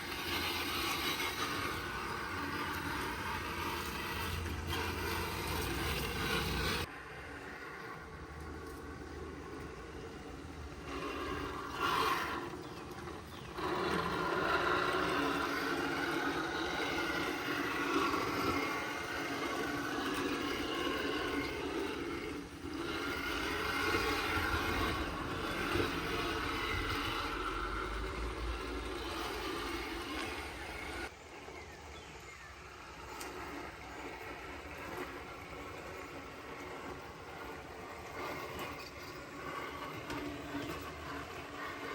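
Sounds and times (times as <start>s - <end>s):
electric motor and drivetrain whine: 0.0s - 41.9s.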